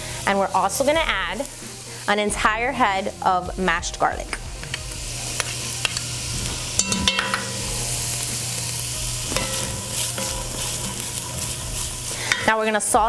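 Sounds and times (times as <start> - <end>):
onion and garlic sizzling: 0.0 - 13.0.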